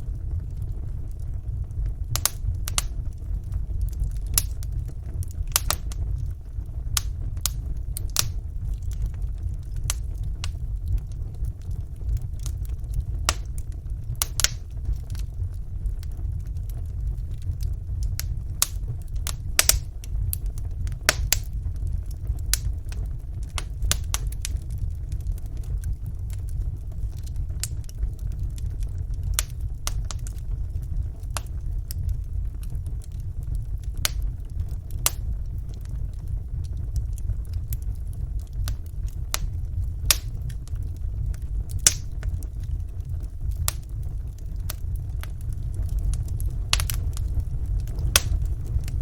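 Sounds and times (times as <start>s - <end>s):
fire crackles and pops: 0.0s - 49.0s
fire rumbling: 0.0s - 49.0s.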